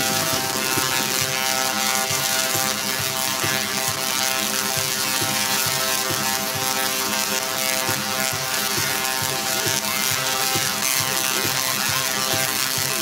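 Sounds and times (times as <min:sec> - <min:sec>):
steady droning tone: 0:00.0 - 0:13.0
tesla coils buzzing a tune: 0:00.0 - 0:13.0.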